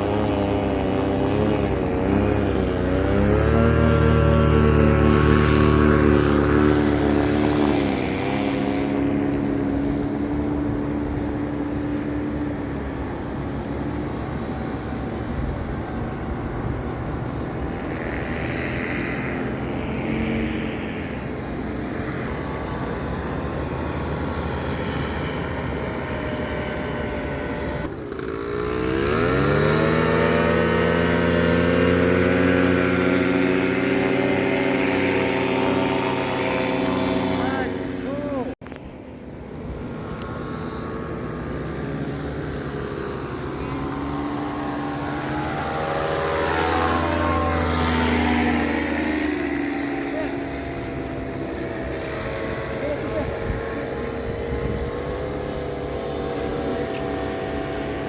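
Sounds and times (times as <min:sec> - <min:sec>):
motor engine running: 0:00.0 - 0:58.0.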